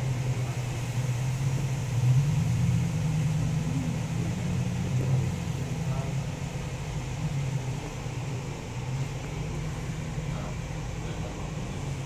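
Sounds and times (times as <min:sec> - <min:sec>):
heavy rain pouring: 0:00.0 - 0:12.0
steady low hum: 0:00.0 - 0:12.0.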